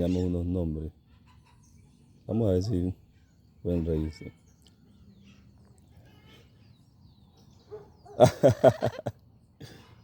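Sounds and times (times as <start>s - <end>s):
faint bird chirps: 0.0s - 8.2s.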